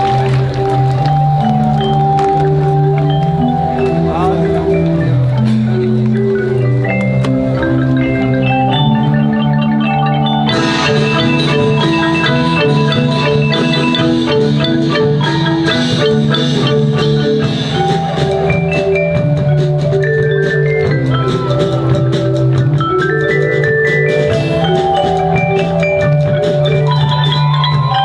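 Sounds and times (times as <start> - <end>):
marimba ensemble melody: 0.0 - 28.0.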